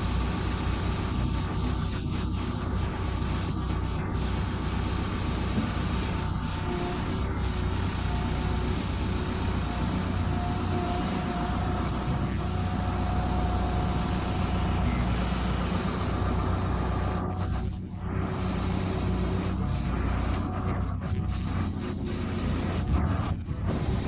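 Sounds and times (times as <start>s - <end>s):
diesel engine running: 0.0s - 24.0s
faint steady whine: 0.0s - 24.0s.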